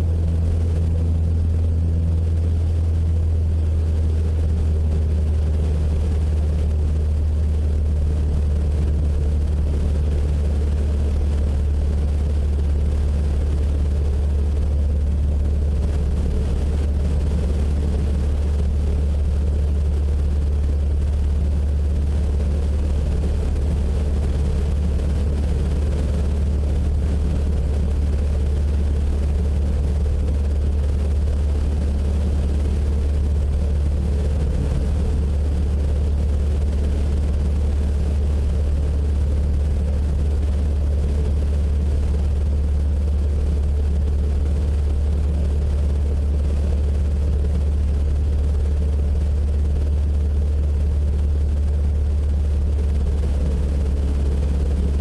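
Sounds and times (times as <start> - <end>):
propeller airplane engine droning: 0.0 - 55.0.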